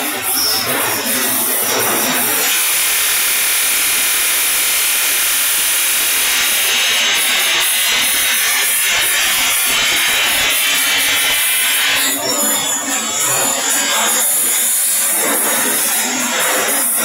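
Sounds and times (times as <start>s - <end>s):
polishing wheel whirring on metal: 0.0s - 17.0s.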